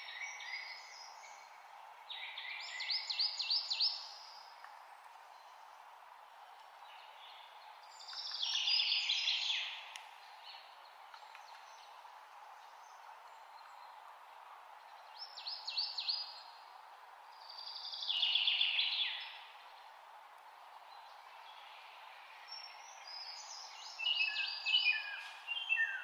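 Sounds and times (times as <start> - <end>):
songbird singing: 0.0 - 26.0
steady background hiss: 0.0 - 26.0.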